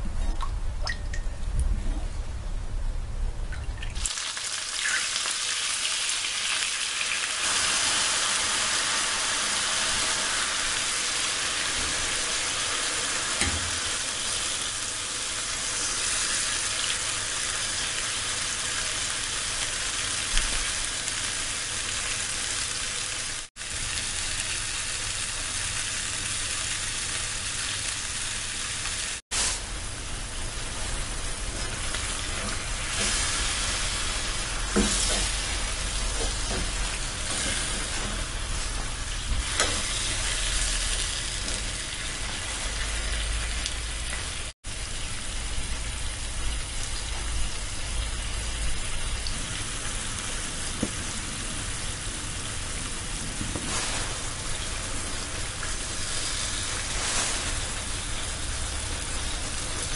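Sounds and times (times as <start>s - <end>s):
chicken sizzling in frying pan: 4.0s - 59.9s.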